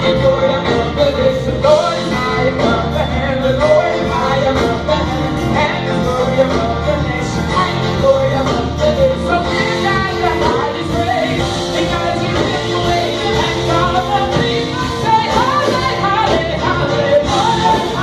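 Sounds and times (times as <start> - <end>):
band playing worship music: 0.0 - 18.0
voices singing: 0.0 - 18.0.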